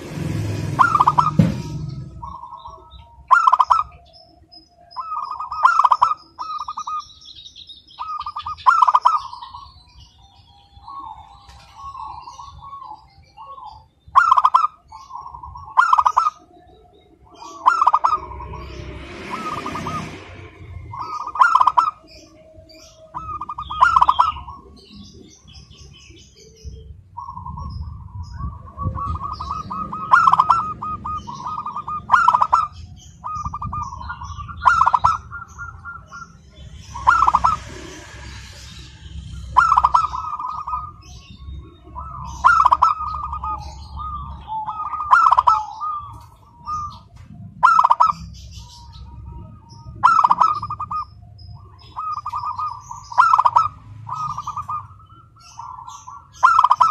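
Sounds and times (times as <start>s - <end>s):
dove cooing: 0.0s - 7.2s, 7.9s - 38.7s, 39.4s - 56.9s.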